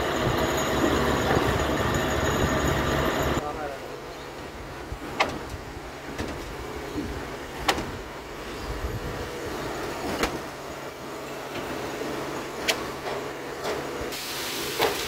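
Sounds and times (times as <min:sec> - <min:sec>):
concrete pump drone: 0:00.0 - 0:14.9.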